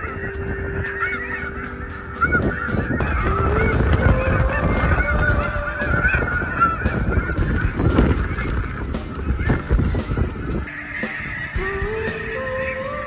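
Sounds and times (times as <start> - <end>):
low rumble: 0.0 - 12.0
geese honking: 0.0 - 13.0.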